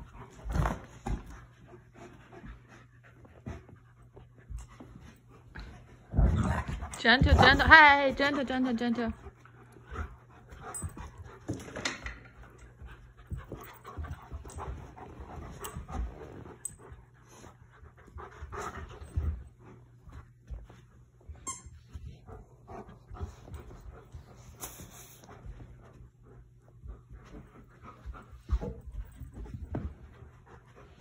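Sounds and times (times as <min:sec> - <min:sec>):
dogs panting: 0:00.0 - 0:21.2, 0:22.0 - 0:31.0.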